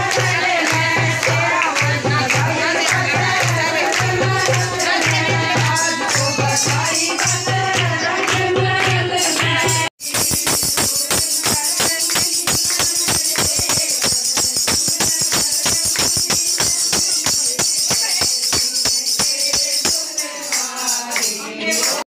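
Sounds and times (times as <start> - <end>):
hand claps: 0.0 - 22.0
tambourine jingles: 0.0 - 22.0.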